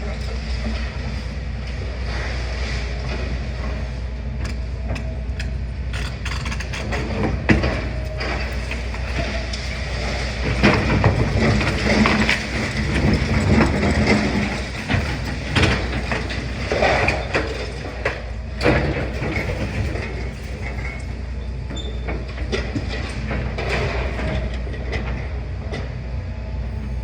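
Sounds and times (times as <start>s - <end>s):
masonry and metal crunching: 0.0s - 25.8s
excavator engine drone: 0.0s - 27.0s.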